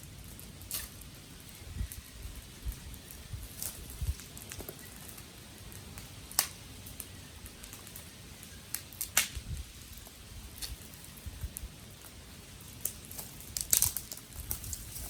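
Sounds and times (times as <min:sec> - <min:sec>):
faint fire hiss: 0:00.0 - 0:15.0
wood fire popping and snapping: 0:00.0 - 0:15.0.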